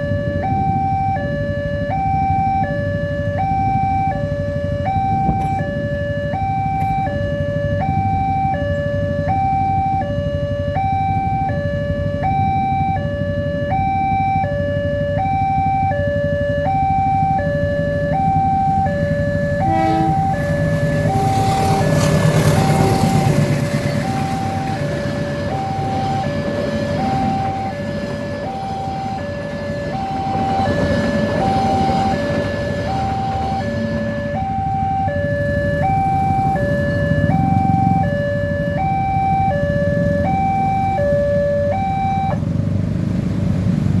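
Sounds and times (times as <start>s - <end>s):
level crossing two-tone alarm: 0.0s - 42.5s
low vehicle rumble: 0.0s - 44.0s
broad rush of noise: 3.5s - 44.0s.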